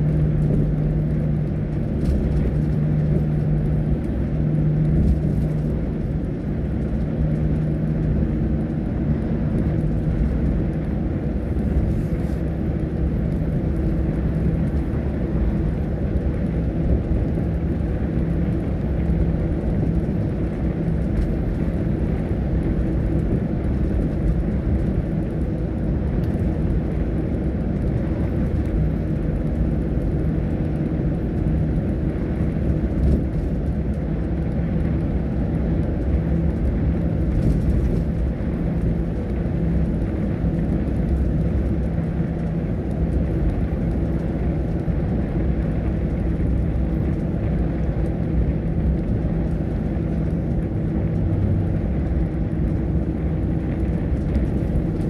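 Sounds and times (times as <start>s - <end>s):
bus engine and tyre rumble: 0.0s - 55.0s.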